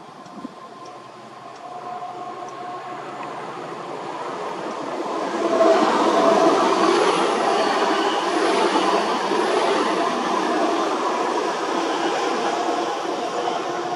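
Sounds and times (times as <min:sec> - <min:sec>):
diesel locomotive engine: 0:00.0 - 0:13.9.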